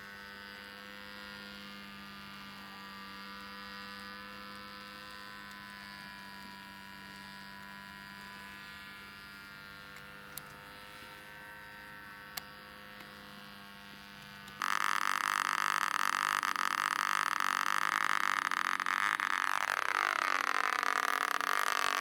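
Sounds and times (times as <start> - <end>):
faint motor hum: 0.0 - 22.0
model airplane engine buzzing: 0.0 - 22.0.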